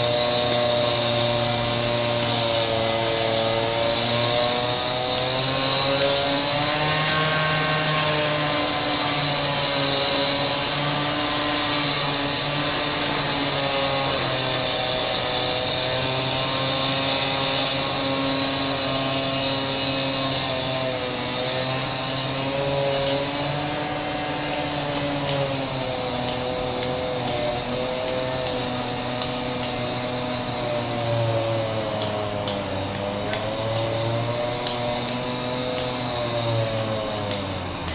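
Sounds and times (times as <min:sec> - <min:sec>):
concrete saw cutting stone: 0:00.0 - 0:37.9.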